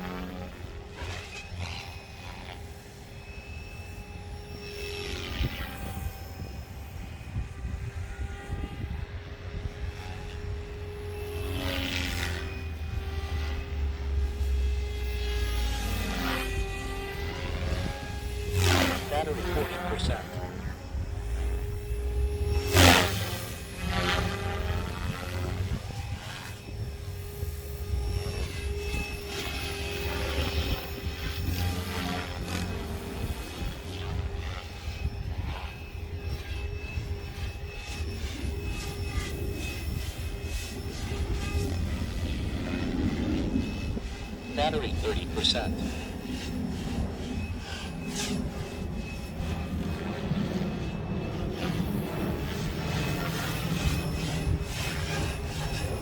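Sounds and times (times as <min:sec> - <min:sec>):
helicopter whooshing past: 0:00.0 - 0:56.0
rc helicopter motor and rotor whine: 0:00.0 - 0:56.0
wind rumble on microphone: 0:05.0 - 0:44.5, 0:45.8 - 0:56.0.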